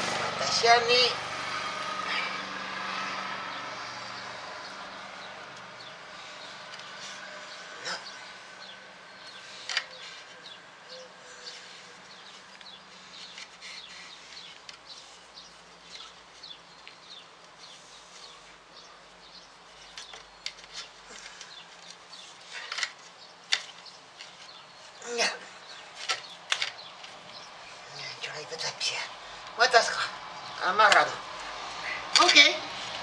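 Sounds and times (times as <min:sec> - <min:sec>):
yarn rustling: 0:00.0 - 0:33.0.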